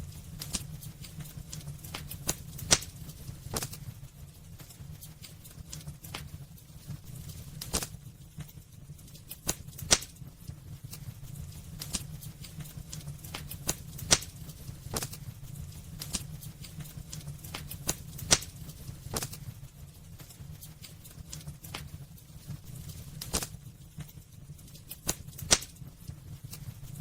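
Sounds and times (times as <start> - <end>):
loud wood fire pops: 0.0 - 4.0, 4.6 - 8.5, 9.2 - 19.6, 20.2 - 24.1, 24.8 - 27.0
burning wood crackling and snapping: 0.0 - 27.0
low rumble of flames: 0.0 - 27.0.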